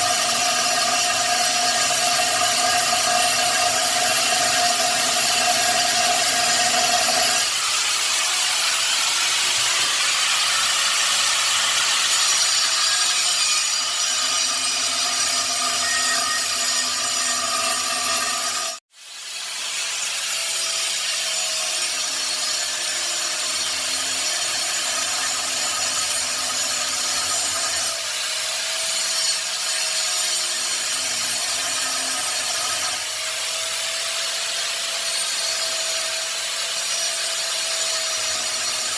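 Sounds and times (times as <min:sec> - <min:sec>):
power tool sawing: 0:00.0 - 0:38.9.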